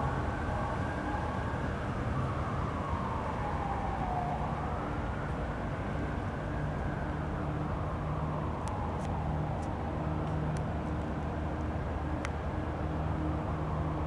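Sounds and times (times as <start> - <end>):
distant motor vehicle rumble: 0.0 - 14.0.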